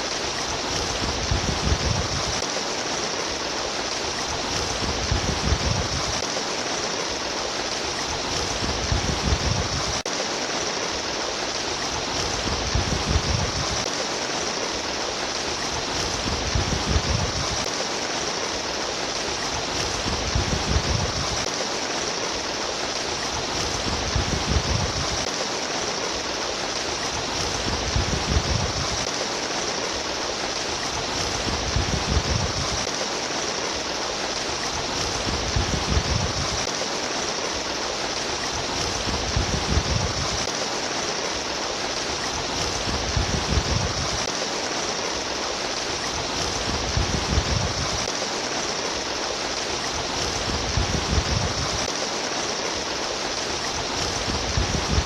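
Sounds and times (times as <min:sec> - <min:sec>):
stream water babbling: 0:00.0 - 0:55.0.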